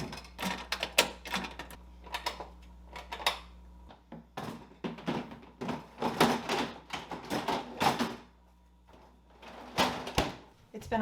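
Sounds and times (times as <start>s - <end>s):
parts knocking and clattering: 0.0s - 8.3s, 8.9s - 10.5s.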